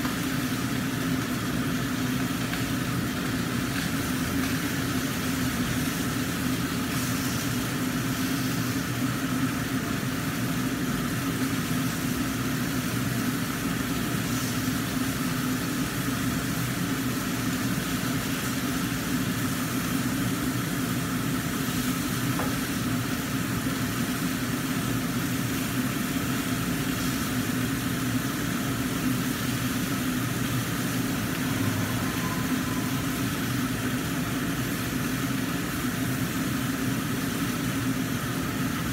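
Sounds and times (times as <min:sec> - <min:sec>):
fish frying: 0:00.0 - 0:38.9
range hood fan humming: 0:00.0 - 0:38.9.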